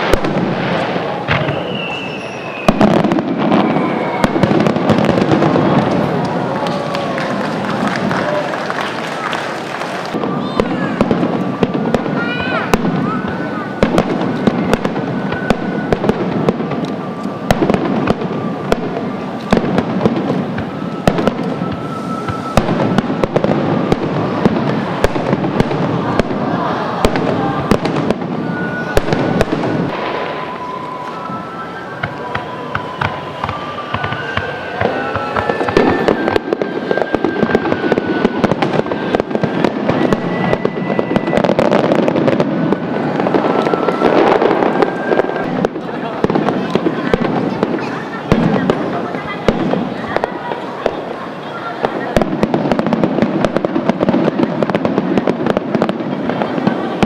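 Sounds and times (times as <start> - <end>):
continuous rumbling din: 0.0 - 57.0
fireworks bangs and cracks: 0.0 - 57.0.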